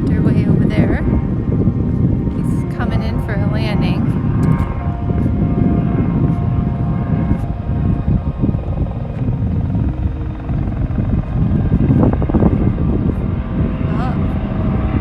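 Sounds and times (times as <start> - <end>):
helicopter low rumble: 0.0 - 15.0.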